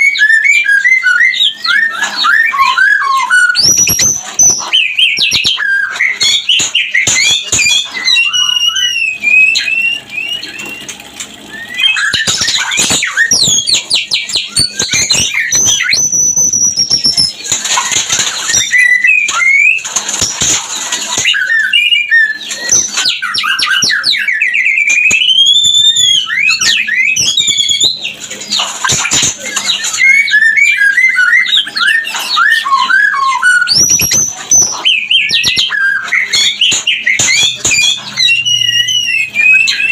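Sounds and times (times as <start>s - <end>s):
bird singing varied whistles and trills: 0.0s - 20.4s, 21.1s - 39.9s.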